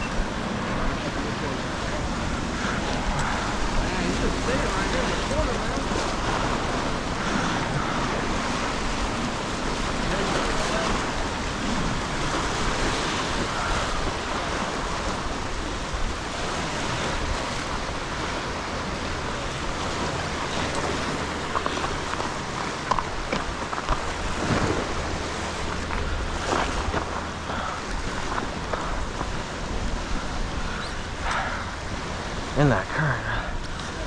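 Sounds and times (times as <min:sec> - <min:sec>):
wind buffeting microphone: 0:00.0 - 0:32.8
waves washing against rocks: 0:00.0 - 0:34.0.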